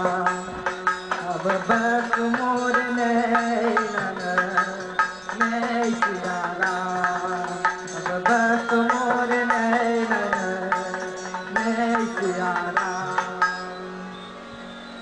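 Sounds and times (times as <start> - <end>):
hand-drum strokes: 0.0 - 13.8
sustained instrumental melody: 0.0 - 15.0.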